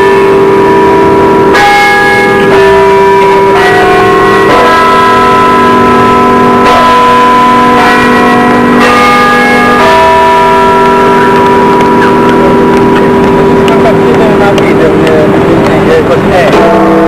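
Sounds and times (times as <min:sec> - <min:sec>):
bells ringing: 0:00.0 - 0:17.0.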